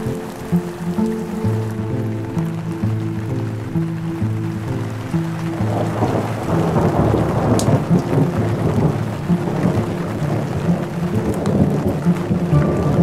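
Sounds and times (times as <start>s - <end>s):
rain: 0.0s - 13.0s
thunder rumbling: 0.0s - 13.0s.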